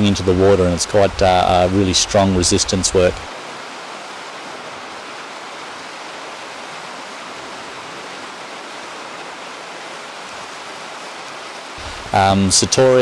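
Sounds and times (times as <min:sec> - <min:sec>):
horses wading through churning water: 0:00.0 - 0:13.0.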